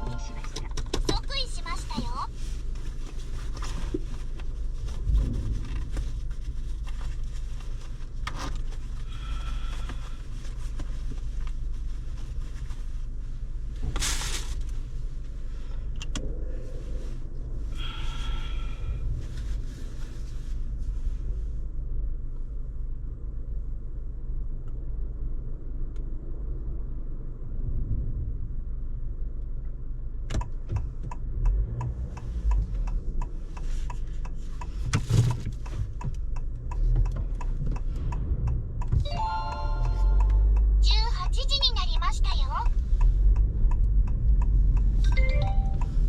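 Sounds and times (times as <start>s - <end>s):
low rumble in car cabin: 0.0s - 46.0s.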